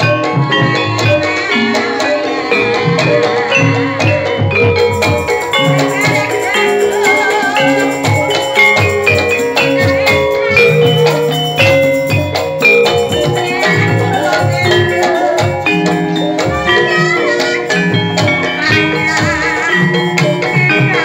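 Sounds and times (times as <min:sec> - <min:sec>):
gamelan playing: 0:00.0 - 0:21.0.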